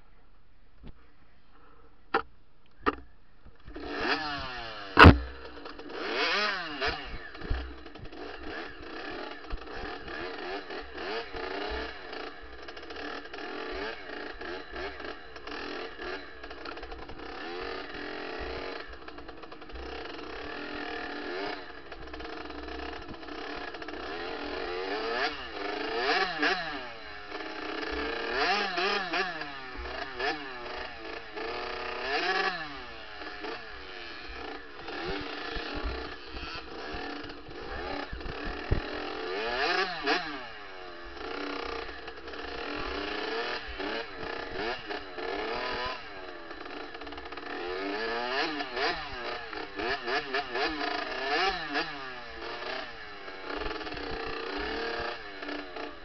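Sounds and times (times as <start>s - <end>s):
dirt bike engine revving: 2.9s - 56.0s
clatter: 4.8s - 56.0s.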